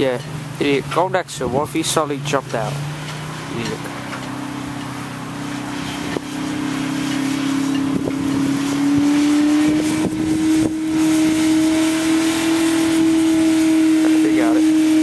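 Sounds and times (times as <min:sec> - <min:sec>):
car engine revving: 0:00.0 - 0:15.0
wheels spinning in snow: 0:00.0 - 0:15.0.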